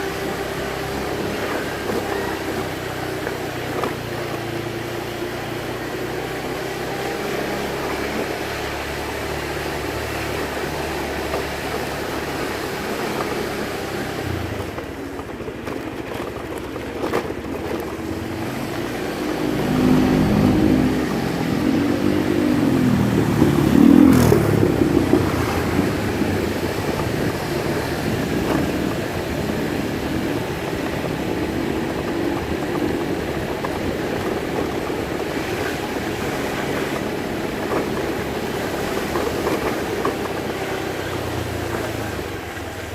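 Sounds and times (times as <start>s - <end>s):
road noise: 0.0s - 42.9s
vehicle engine hum: 0.0s - 42.9s.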